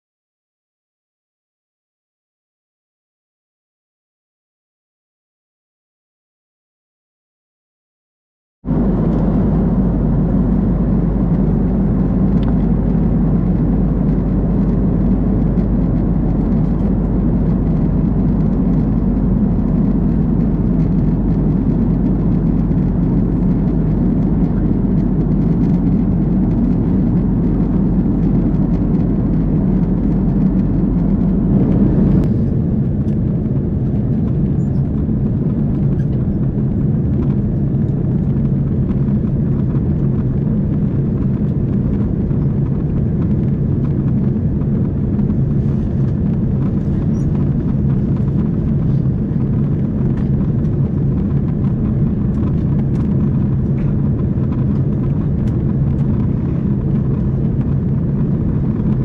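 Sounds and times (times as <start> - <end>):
airplane cabin drone: 8.7 - 59.0.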